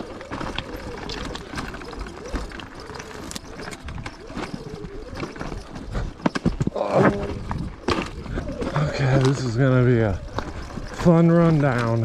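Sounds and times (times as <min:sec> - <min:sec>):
bike knocking and rattling: 0:00.0 - 0:12.0
electric dirt bike motor whining: 0:00.0 - 0:12.0.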